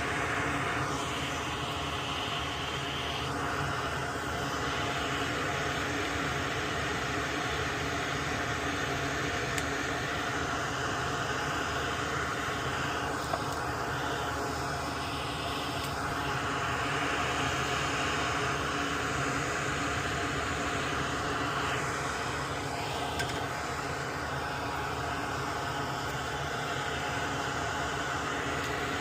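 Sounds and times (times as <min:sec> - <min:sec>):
fan whirring and hissing: 0:00.0 - 0:29.0.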